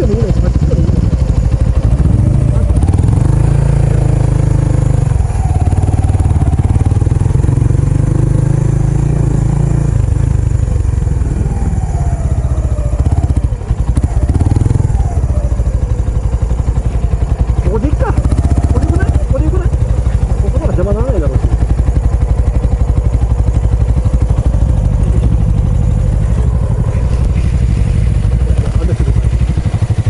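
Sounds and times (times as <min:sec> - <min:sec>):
motorcycle exhaust revving: 0:00.0 - 0:30.0.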